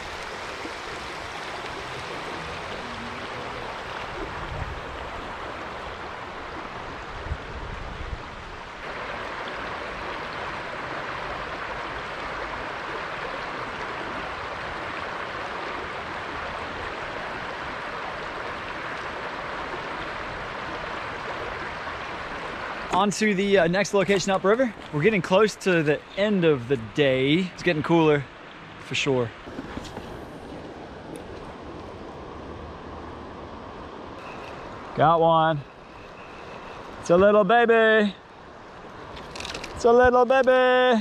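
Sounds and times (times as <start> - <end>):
creek rushing over rocks: 0.0 - 41.0.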